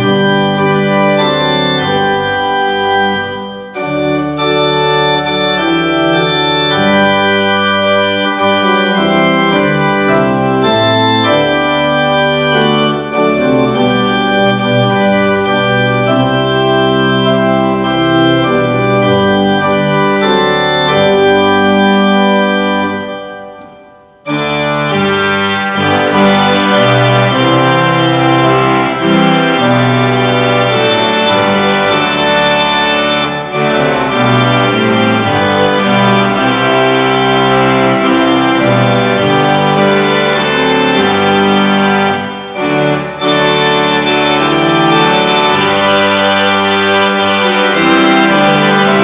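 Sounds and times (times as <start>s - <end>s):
organ playing slow chords: 0.0s - 49.0s.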